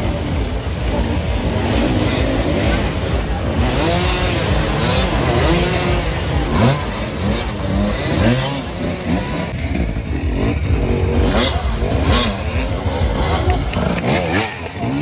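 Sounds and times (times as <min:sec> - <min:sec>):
dirt-bike engines revving: 0:00.0 - 0:15.0.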